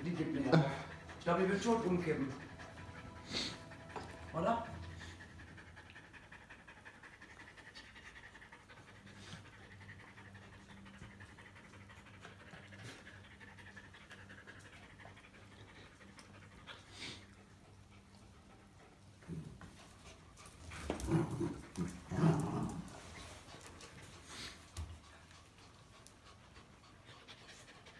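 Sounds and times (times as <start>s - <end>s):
dog panting: 0.0s - 27.9s.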